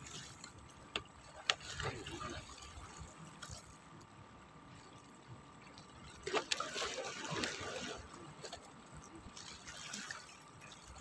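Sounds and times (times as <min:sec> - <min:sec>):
waves splashing against rocks: 0:00.0 - 0:03.8, 0:06.0 - 0:11.0.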